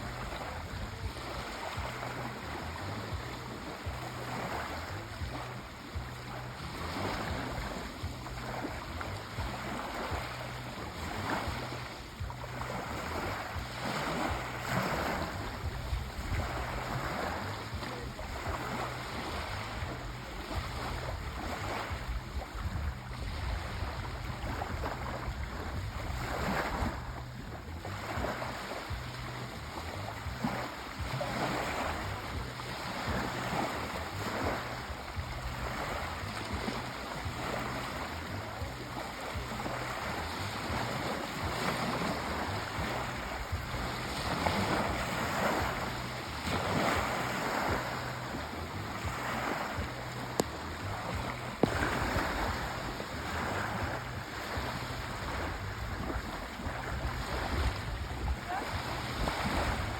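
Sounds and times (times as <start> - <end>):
sea waves washing: 0.0 - 59.9.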